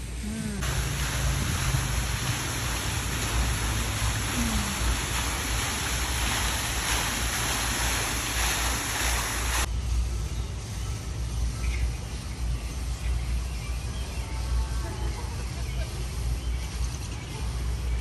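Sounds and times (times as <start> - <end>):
fountain water splashing: 0.0 - 10.0, 12.0 - 18.0.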